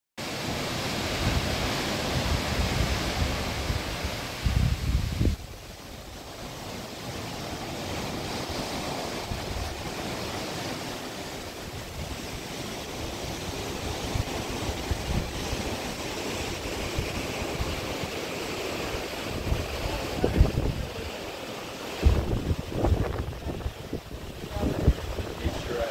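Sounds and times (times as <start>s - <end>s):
sea water rushing: 0.2s - 25.9s
wind buffeting microphone: 0.5s - 25.9s.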